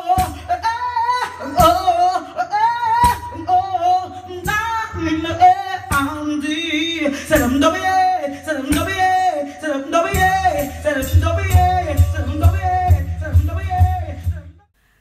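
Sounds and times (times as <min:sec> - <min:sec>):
woman singing into a microphone: 0:00.0 - 0:14.6.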